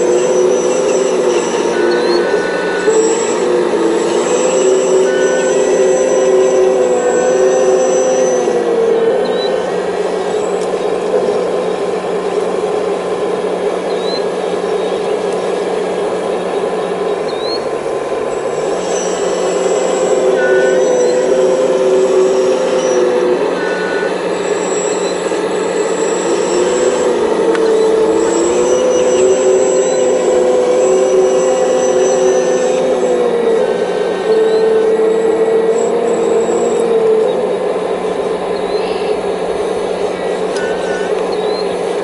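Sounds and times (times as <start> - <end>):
excavator diesel engine under load: 0.0 - 42.0
hydraulic whine: 0.0 - 42.0.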